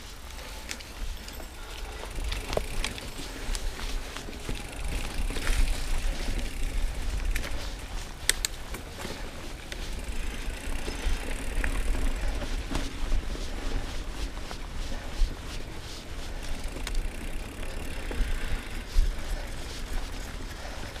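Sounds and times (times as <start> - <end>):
bike clicks and rattles: 0.0 - 21.0
bike tyres on dirt trail: 0.0 - 21.0.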